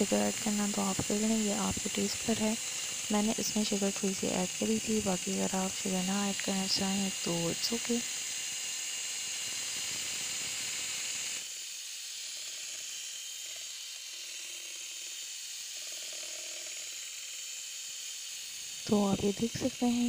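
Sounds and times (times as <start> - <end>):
electric hand mixer whirring: 0.0 - 20.0.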